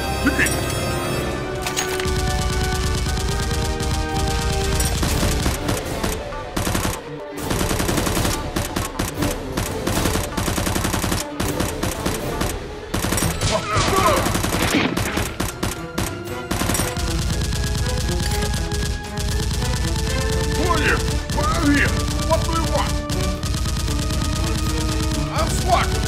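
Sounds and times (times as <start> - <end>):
automatic gunfire bursts: 2.0 - 13.4, 14.0 - 26.0.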